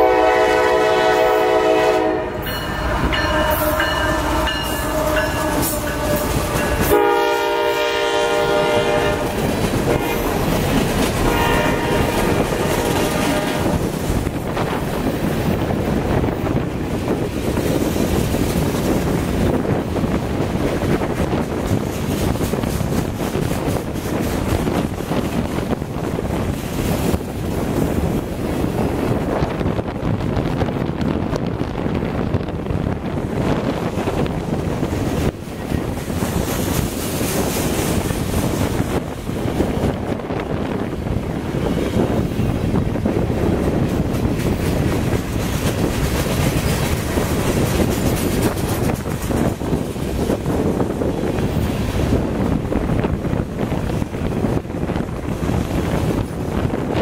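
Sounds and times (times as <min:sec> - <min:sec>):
freight cars rumbling on rails: 0:00.0 - 0:57.0.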